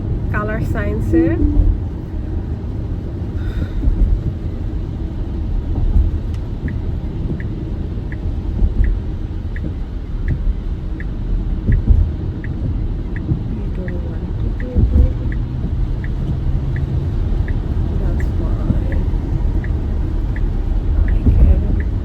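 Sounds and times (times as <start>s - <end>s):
turn signal ticking: 0.0s - 2.4s, 3.1s - 22.0s
car road and engine rumble: 0.0s - 22.0s
heavy rain on car: 0.0s - 22.0s.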